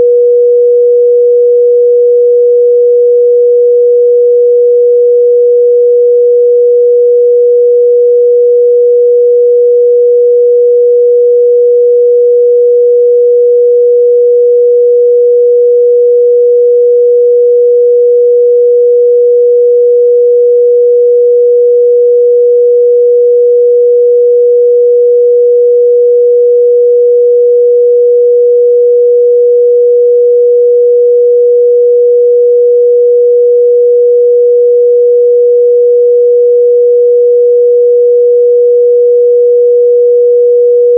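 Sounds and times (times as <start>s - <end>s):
sine wave test tone: 0.0s - 40.9s.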